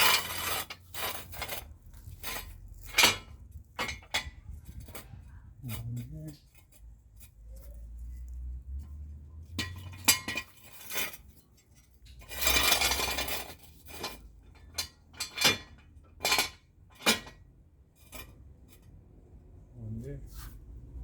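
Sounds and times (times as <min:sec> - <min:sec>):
metal scraping: 0:00.0 - 0:17.4.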